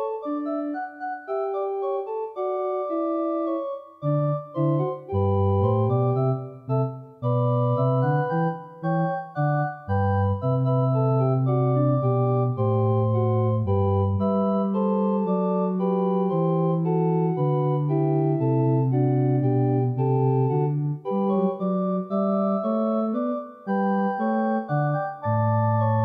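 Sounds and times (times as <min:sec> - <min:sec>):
pipe organ playing chords: 0:00.0 - 0:26.0.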